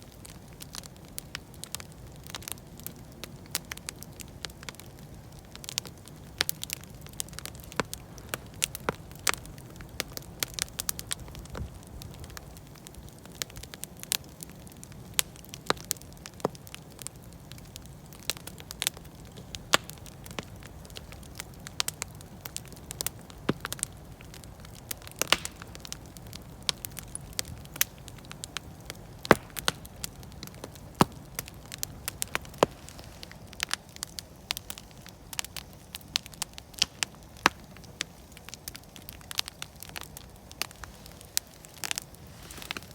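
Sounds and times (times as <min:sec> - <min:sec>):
campfire crackling and popping: 0:00.0 - 0:42.9
low rumble of flames: 0:00.0 - 0:42.9.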